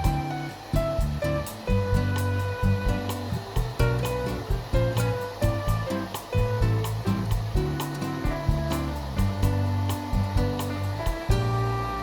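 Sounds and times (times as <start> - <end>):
electronic music with steady beat: 0.0 - 11.6.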